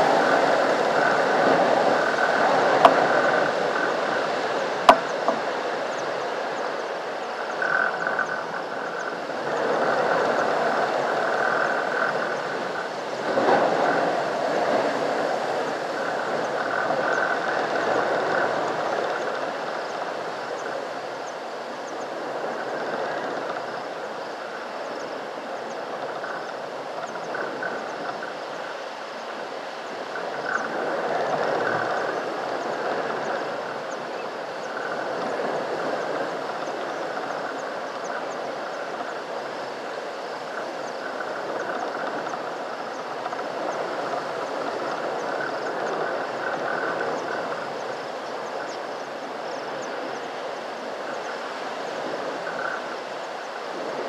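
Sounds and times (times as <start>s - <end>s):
outdoor animal chorus: 0.0s - 54.0s.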